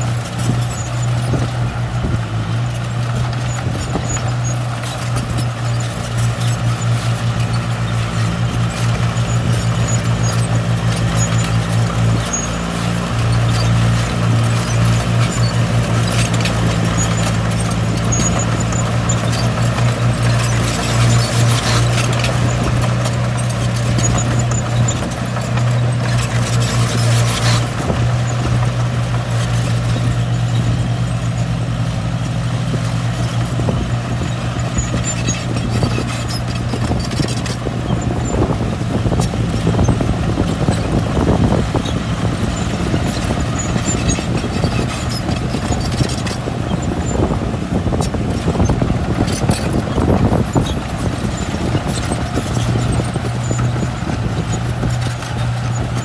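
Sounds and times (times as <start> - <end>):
diesel engine running: 0.0 - 56.0
machine knocks and rattles: 0.0 - 56.0.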